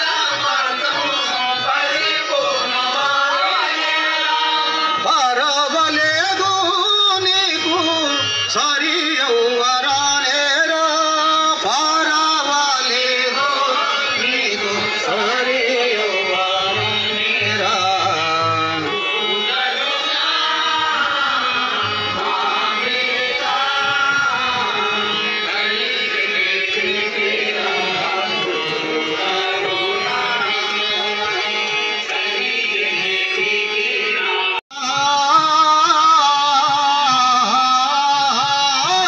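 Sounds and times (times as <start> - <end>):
devotional song singing: 0.0 - 39.0
instrumental accompaniment: 0.0 - 39.0.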